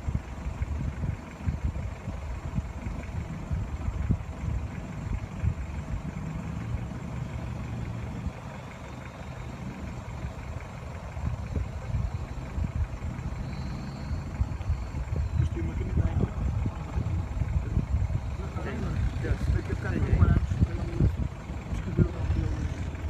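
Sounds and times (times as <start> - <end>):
off-road vehicle engine: 0.0 - 23.0.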